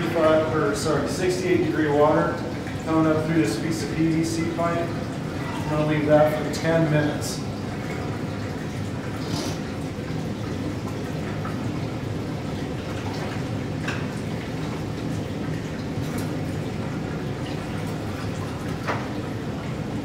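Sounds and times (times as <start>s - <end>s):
water spilling into sink: 0.0s - 20.0s.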